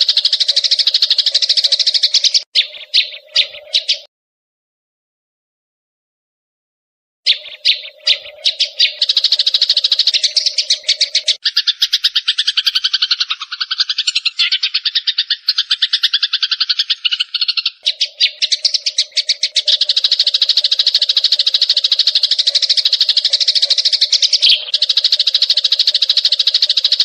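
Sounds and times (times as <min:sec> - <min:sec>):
sparrows chirping: 0:00.0 - 0:04.1, 0:07.3 - 0:27.0.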